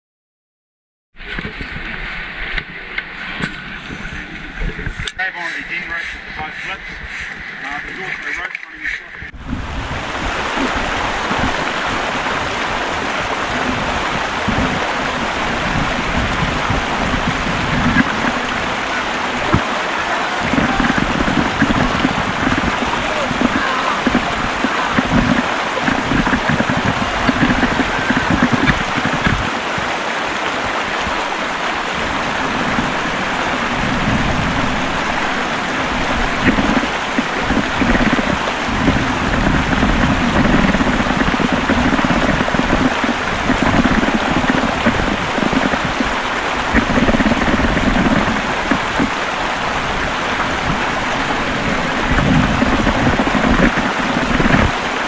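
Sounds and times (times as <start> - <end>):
rapids rushing: 1.2 - 55.0
water splashing against raft: 8.0 - 55.0.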